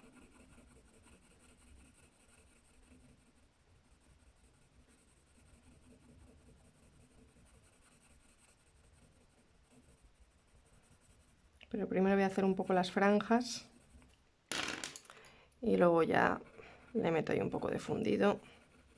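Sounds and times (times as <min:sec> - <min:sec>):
colouring tool scratching paper: 0:00.0 - 0:14.1, 0:15.8 - 0:18.9.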